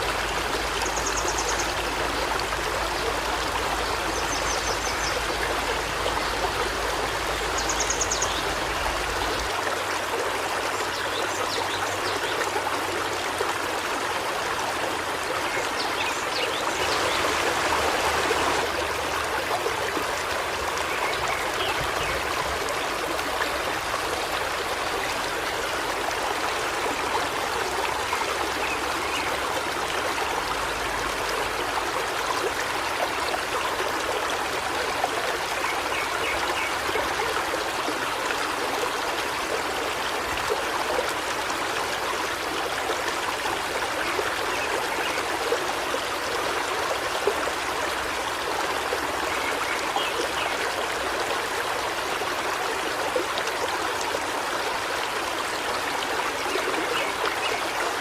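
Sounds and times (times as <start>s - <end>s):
river water babbling over rocks: 0.0s - 58.0s.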